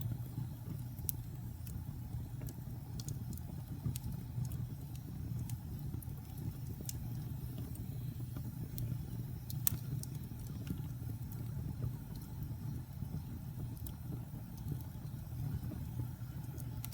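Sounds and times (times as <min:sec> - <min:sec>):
burning wood crackling and popping: 0:00.0 - 0:16.9
low rumble of flames: 0:00.0 - 0:16.9.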